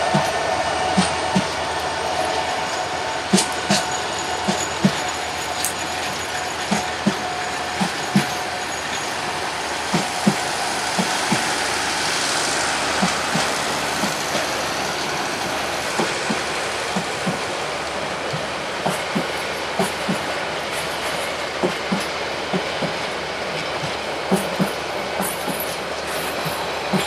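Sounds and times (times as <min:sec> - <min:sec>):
train coaches rumbling past: 0:00.0 - 0:27.0
wheels clacking over rail joints: 0:00.0 - 0:27.0.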